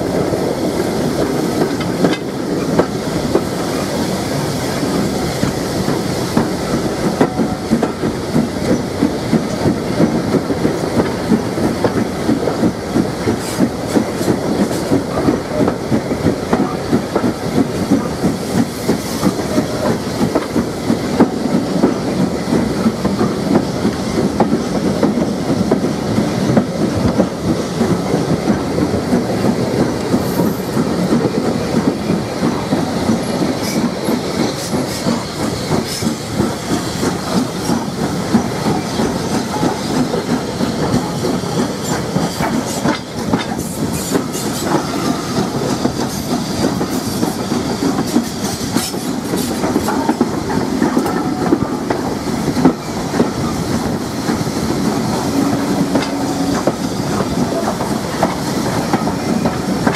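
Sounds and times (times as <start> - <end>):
train wheels clickety-clack: 0.0 - 59.9.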